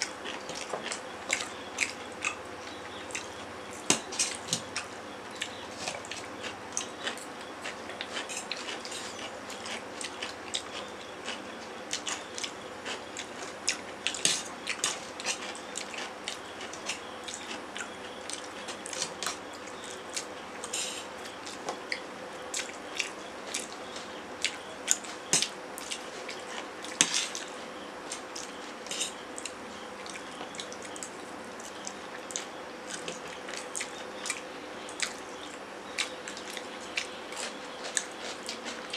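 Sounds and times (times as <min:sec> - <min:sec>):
faint steady hum: 0:00.0 - 0:38.9
chewing and slurping noodles: 0:04.1 - 0:34.4, 0:35.0 - 0:38.9.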